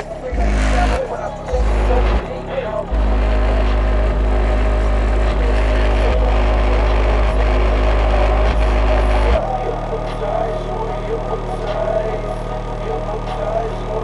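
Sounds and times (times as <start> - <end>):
subwoofer deep bass note: 0.0 - 14.0.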